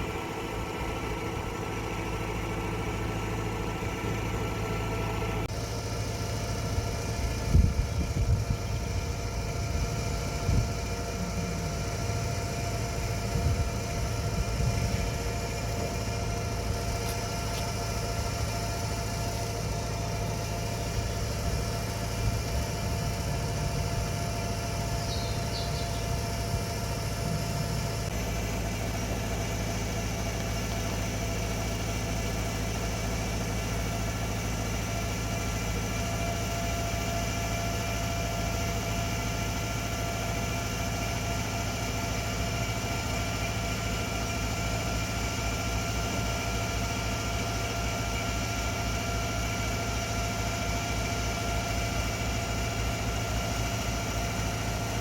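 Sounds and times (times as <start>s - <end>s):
machine engine whining: 0.0s - 55.0s.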